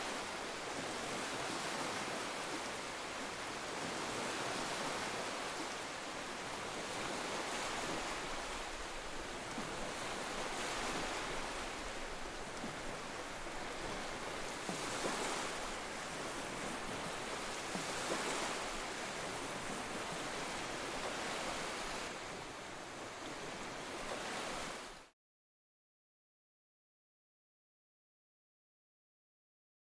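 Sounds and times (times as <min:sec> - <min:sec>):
ocean waves washing against rocks: 0:00.0 - 0:25.0.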